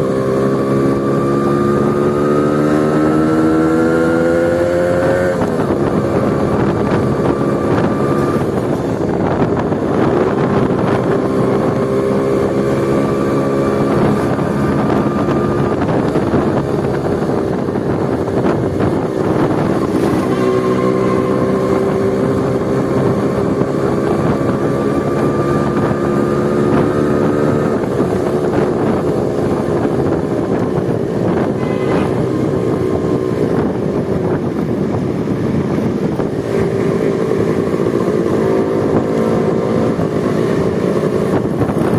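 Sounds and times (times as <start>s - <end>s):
motorcycle engine revving: 0.0s - 41.9s
wind buffeting microphone: 0.0s - 41.9s.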